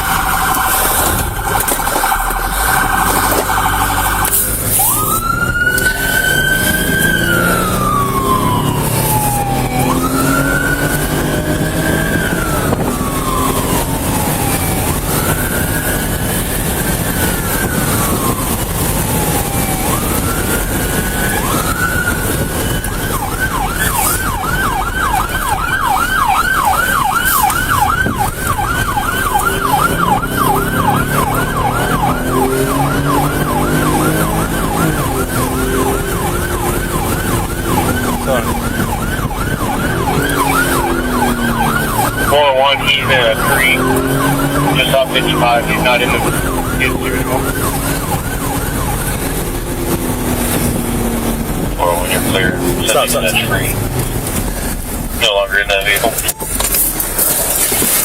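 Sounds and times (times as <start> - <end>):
engine and road noise: 0.0 - 58.0
police siren wailing and yelping: 0.0 - 58.0.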